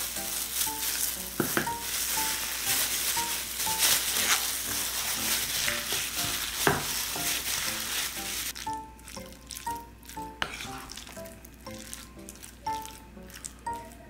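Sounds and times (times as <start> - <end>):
light background music: 0.0 - 14.0
wet squishing of hand mixing meat: 0.0 - 14.0.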